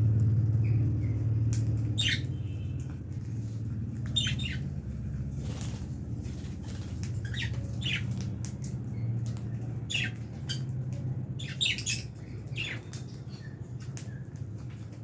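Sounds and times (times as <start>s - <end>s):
lovebirds chirping and squawking: 0.2s - 14.9s.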